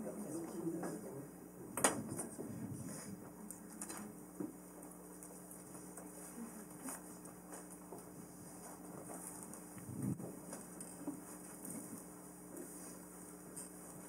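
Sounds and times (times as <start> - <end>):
low steady hum: 0.0 - 14.0
faint clicks and rustles: 1.8 - 14.0.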